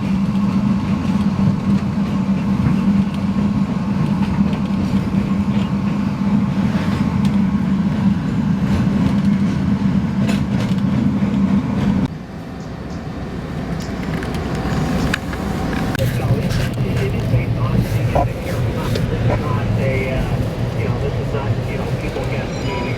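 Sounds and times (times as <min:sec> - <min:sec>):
train hum on rails: 0:00.0 - 0:22.9.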